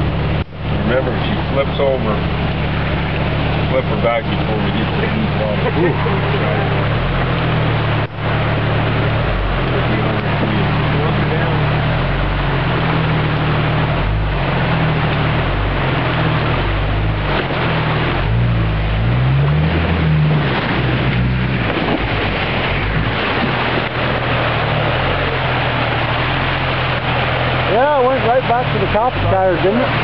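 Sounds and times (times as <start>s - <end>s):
car engine under load: 0.0s - 30.0s
water rushing and splashing: 0.0s - 30.0s.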